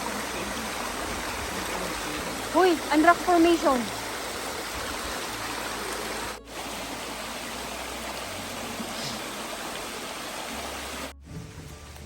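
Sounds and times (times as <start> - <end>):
small waterfall rushing: 0.0 - 11.2.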